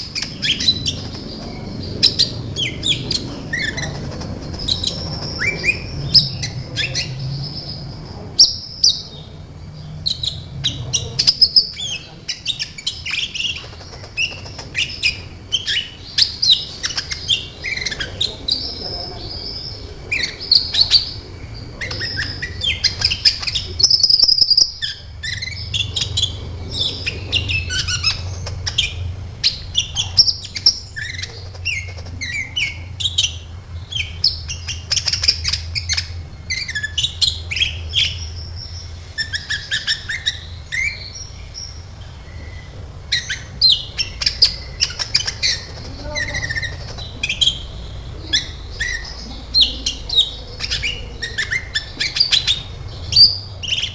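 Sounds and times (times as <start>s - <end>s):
bird chirping and trilling: 0.0s - 53.9s
faint low hum: 0.0s - 53.9s.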